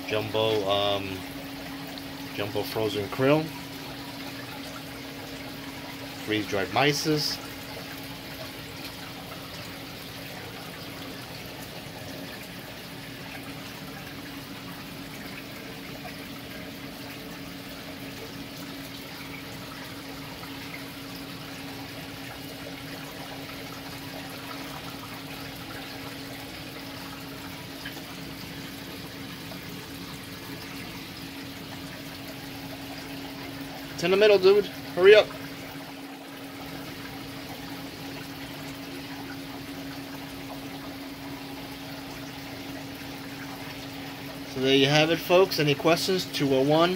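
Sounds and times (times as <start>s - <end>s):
low pump hum: 0.0s - 46.9s
water rushing: 0.0s - 46.9s.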